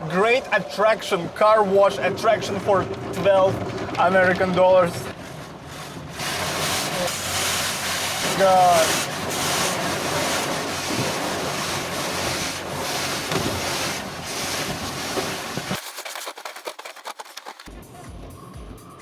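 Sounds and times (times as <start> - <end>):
car wash spraying water: 0.1 - 17.7.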